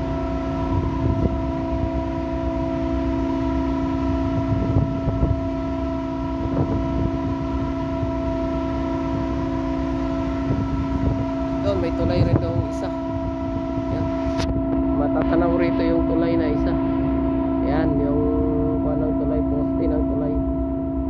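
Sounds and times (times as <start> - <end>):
ship engines humming: 0.0 - 21.0
wind buffeting microphone: 0.0 - 21.0.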